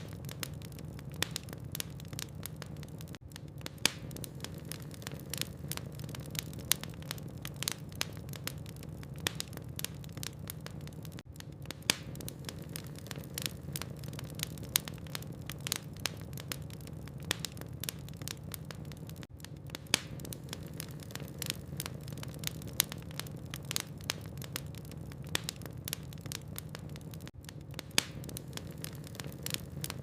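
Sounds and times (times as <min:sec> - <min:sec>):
logs crackling in fireplace: 0:00.0 - 0:30.0.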